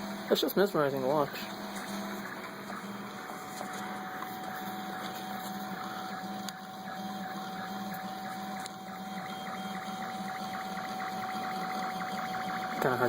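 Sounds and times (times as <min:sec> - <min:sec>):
printer motors humming: 0:00.0 - 0:13.0.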